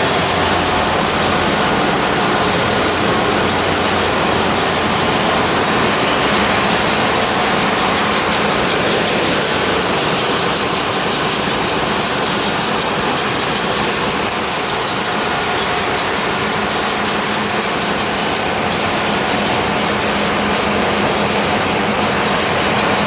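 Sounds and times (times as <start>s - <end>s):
engine room machinery running: 0.0s - 23.0s.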